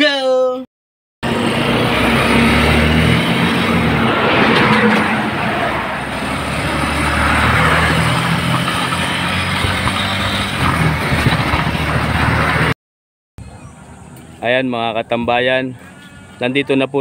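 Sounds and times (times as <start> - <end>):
wind and road noise: 1.2 - 12.8, 13.4 - 17.0.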